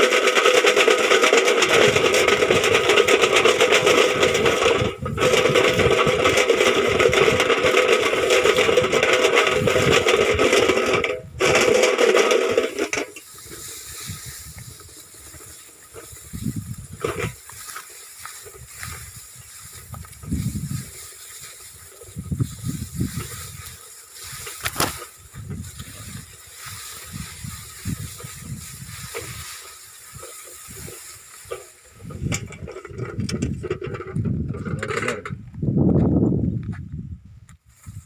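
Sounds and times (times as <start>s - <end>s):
tin can rattling: 0.0s - 35.4s.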